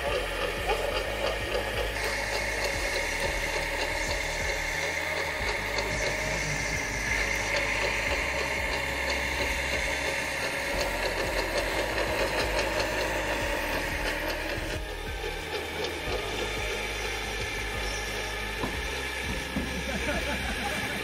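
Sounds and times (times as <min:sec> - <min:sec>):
model truck motor whine: 0:00.0 - 0:21.0.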